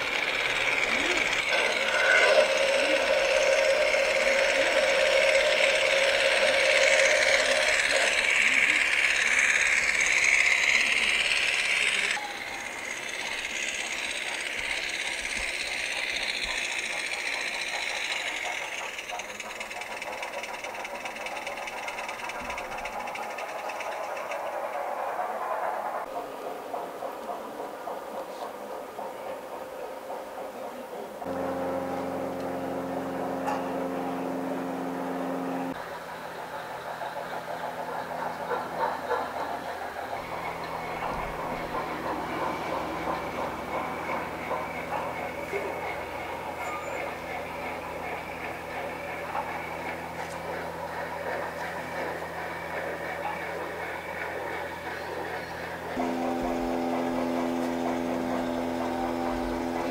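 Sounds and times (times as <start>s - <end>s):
engine idling hum: 0.0s - 26.1s, 31.2s - 59.9s
model railway car running: 0.0s - 59.9s.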